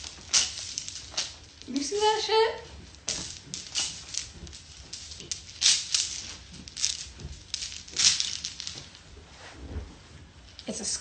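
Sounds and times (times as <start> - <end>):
rustling and scraping handling noise: 0.0 - 11.0.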